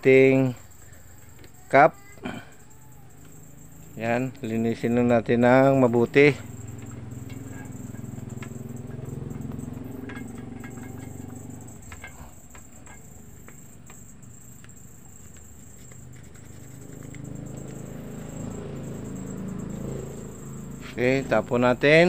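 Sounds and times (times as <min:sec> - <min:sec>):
steady low hum: 0:02.2 - 0:22.0.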